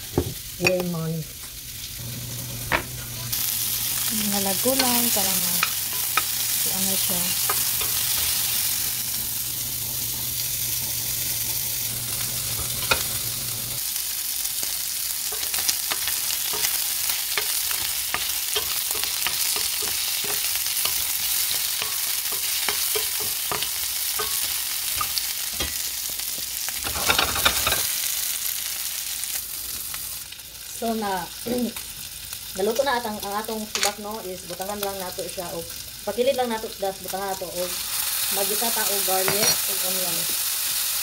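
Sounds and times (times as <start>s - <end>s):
meat sizzling in a frying pan: 0.0s - 41.0s.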